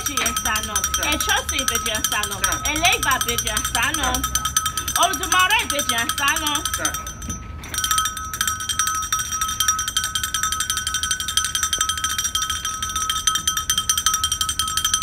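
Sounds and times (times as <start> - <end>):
small metal bell ringing rapidly: 0.0 - 15.0.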